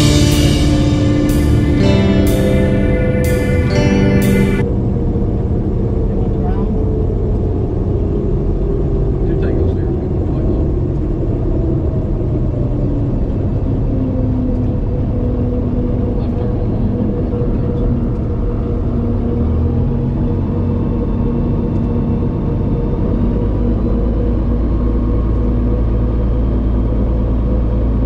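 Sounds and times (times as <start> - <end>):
aircraft piston engine drone: 0.0 - 28.0.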